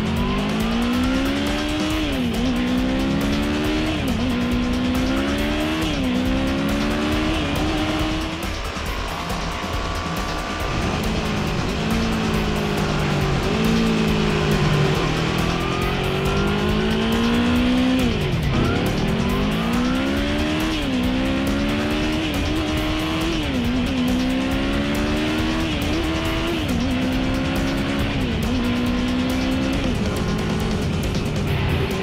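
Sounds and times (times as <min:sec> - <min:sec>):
motorcycle engine revving hard: 0:00.0 - 0:32.0.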